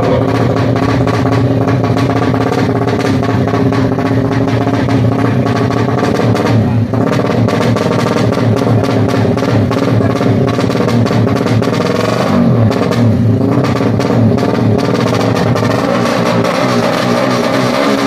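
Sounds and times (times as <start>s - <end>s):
loud music with drum beat: 0.0s - 18.0s.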